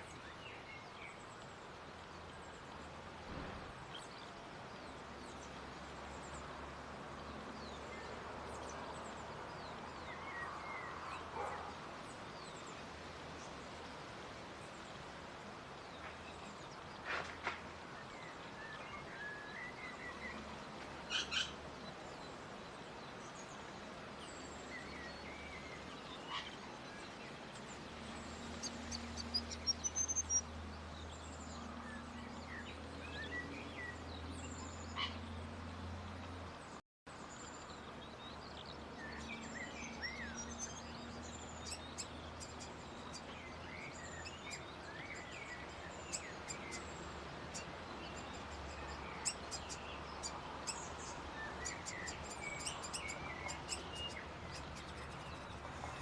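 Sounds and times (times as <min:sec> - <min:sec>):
small birds chirping: 0:07.2 - 0:56.0.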